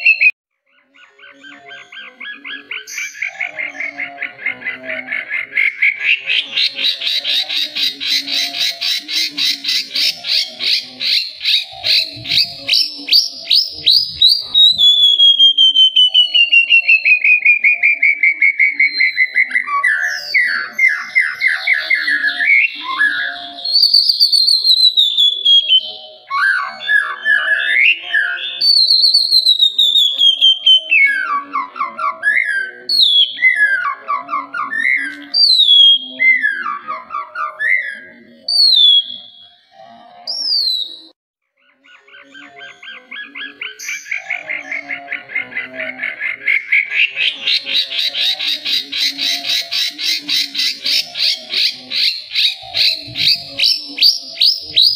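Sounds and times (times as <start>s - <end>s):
songbird singing trills and whistles: 0.0s - 54.9s.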